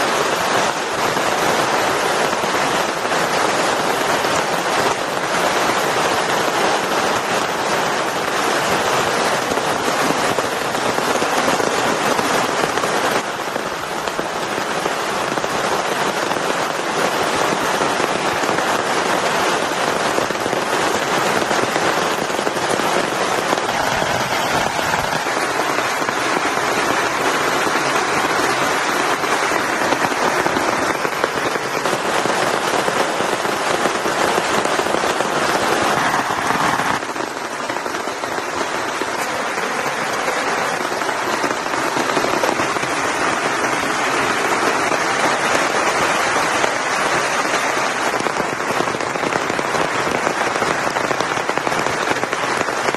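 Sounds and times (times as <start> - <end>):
heavy rain pattering: 0.0 - 52.9.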